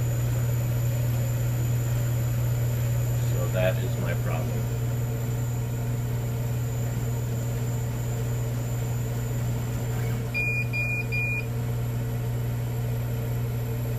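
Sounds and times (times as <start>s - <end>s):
pumps and fans humming: 0.0s - 13.9s.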